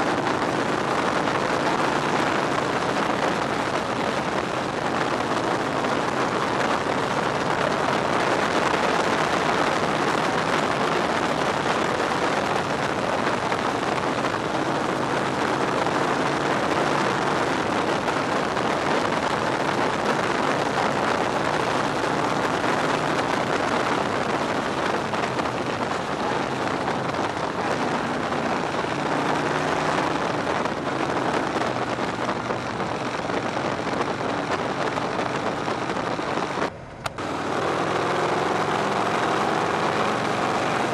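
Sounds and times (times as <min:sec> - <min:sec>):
motorcycle engine running: 0:00.0 - 0:40.9
wind rush over microphone: 0:00.0 - 0:40.9.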